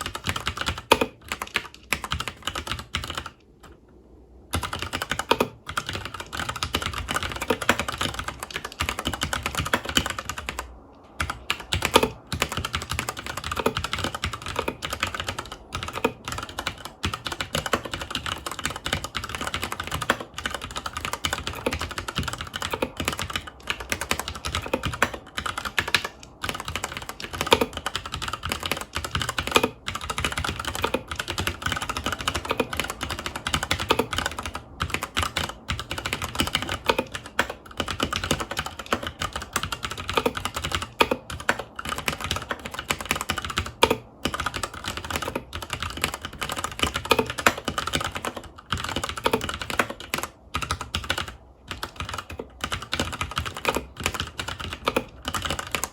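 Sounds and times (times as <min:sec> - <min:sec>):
fast typing on mechanical keyboard: 0:00.0 - 0:03.8, 0:04.5 - 0:55.9.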